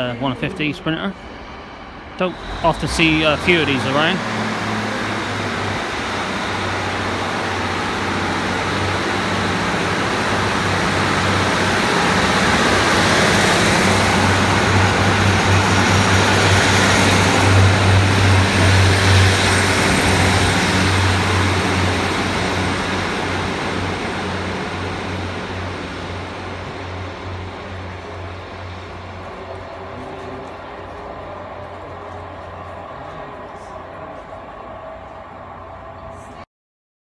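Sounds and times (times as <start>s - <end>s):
diesel train engine drone: 0.0s - 36.5s
wheel-on-rail noise: 1.2s - 36.4s.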